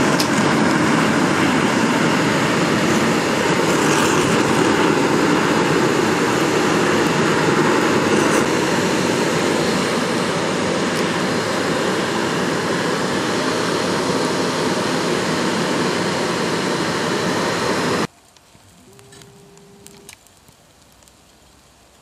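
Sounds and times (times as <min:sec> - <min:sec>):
hair dryer blasting air: 0:00.0 - 0:18.1
faint steady whine: 0:00.0 - 0:22.0
furnace fire roaring: 0:00.0 - 0:22.0.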